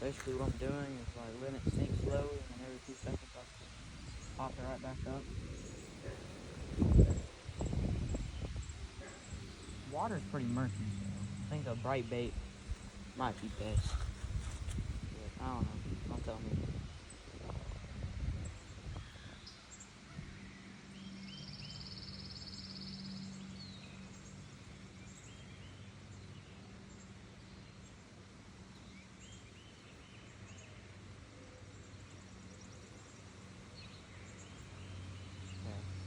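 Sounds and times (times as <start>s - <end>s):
birds chirping: 0.0s - 36.0s
faint low hum: 0.0s - 36.0s.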